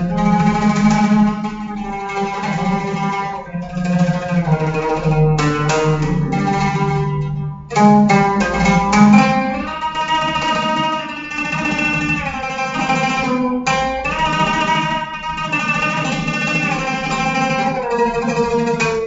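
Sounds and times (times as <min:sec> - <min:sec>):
solo oud melody: 0:00.0 - 0:19.0.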